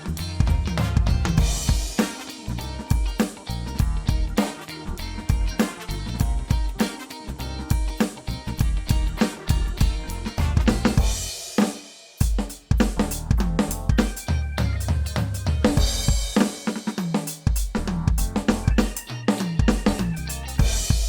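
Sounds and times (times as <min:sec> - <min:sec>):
bass line backing track: 0:00.0 - 0:11.4, 0:12.3 - 0:16.5, 0:17.5 - 0:21.0
drum kit funky groove: 0:00.0 - 0:21.0.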